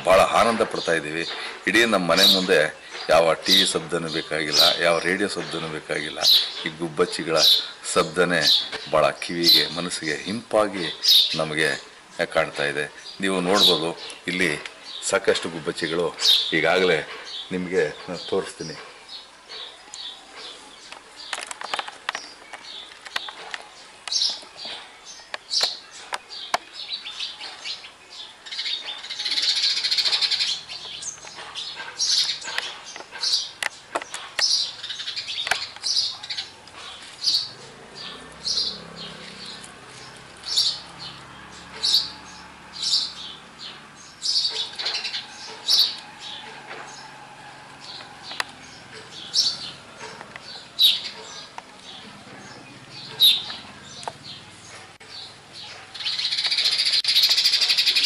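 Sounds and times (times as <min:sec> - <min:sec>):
sparrows chirping: 0:00.0 - 0:58.0.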